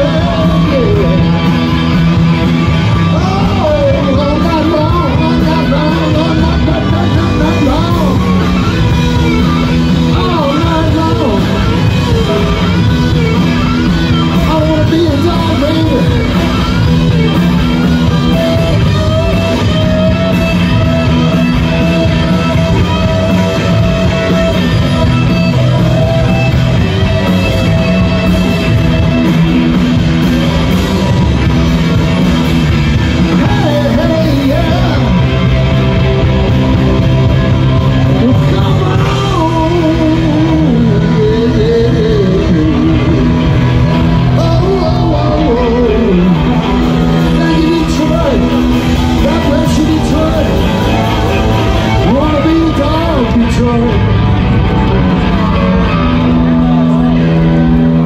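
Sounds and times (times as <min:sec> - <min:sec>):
live rock band with singer: 0:00.0 - 0:58.0.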